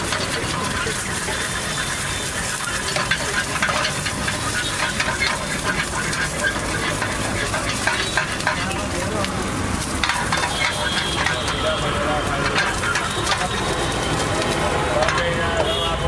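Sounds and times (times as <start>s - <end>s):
omelette sizzling in oil: 0.0s - 15.6s
metal spatula scraping and tapping pan: 0.0s - 15.7s.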